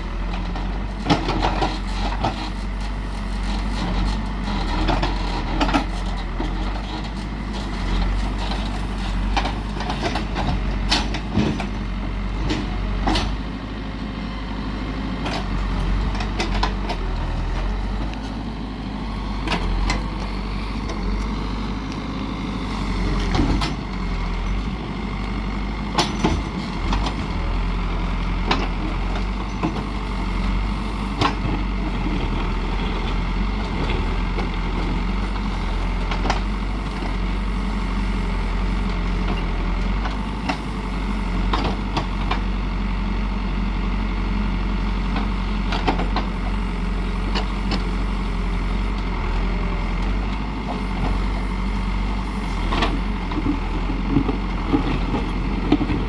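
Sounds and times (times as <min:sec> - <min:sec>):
construction machine engine droning: 0:00.0 - 0:56.0.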